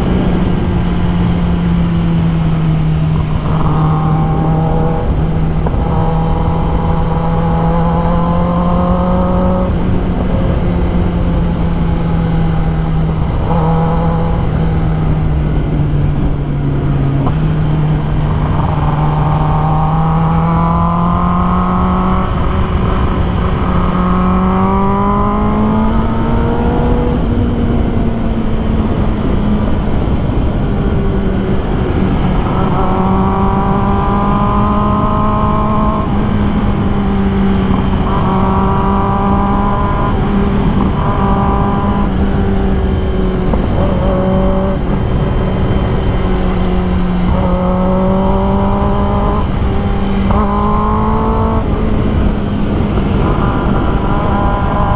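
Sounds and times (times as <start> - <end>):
motorcycle engine running: 0.0 - 54.9
wind rush: 0.0 - 54.9.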